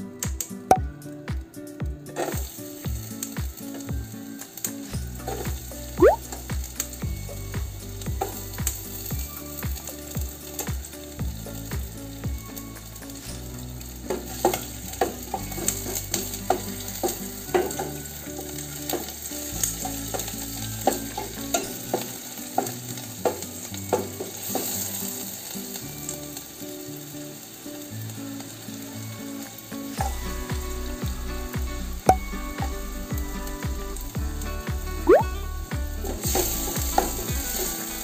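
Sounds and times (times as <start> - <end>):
onion sizzling in hot oil: 2.1 - 38.0.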